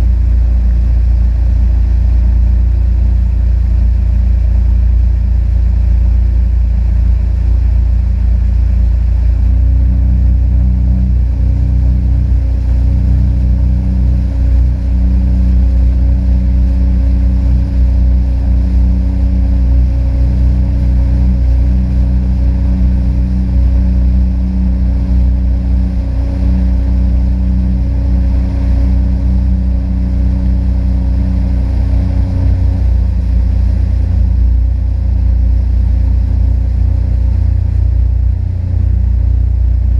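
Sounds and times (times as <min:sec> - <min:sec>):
jet ski engine rumbling: 0:00.0 - 0:39.9.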